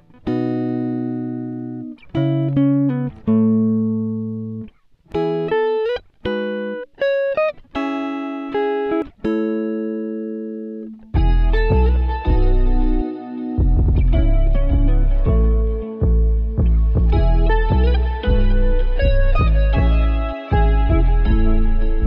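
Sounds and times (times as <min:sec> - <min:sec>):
plucked guitar music: 0:00.0 - 0:22.0.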